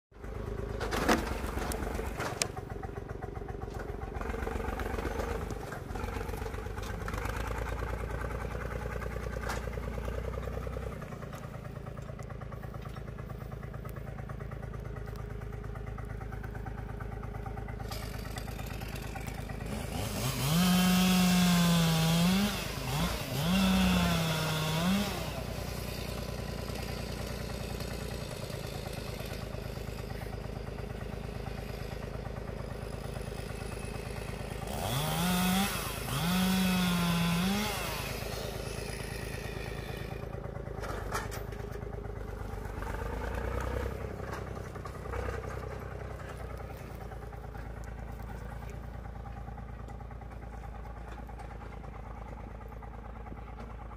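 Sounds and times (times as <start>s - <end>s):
tractor diesel engine: 0.1s - 53.9s
chainsaw cutting branches: 0.5s - 49.4s.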